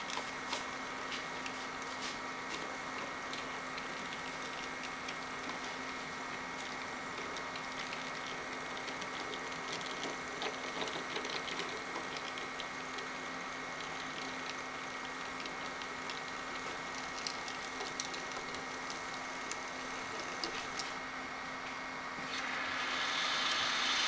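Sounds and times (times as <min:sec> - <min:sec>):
model train motor hum: 0:00.0 - 0:21.0
wheels clicking over track: 0:00.0 - 0:21.0.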